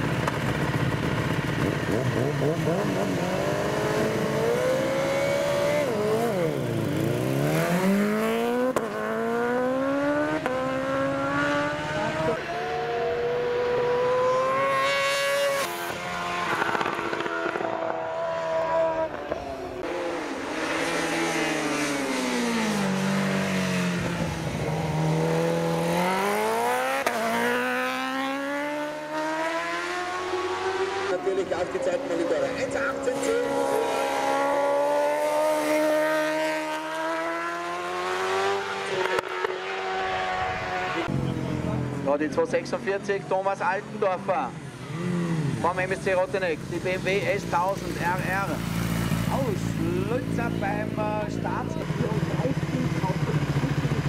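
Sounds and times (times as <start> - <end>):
motorcycle engine accelerating hard: 0.0 - 42.8, 43.8 - 54.0.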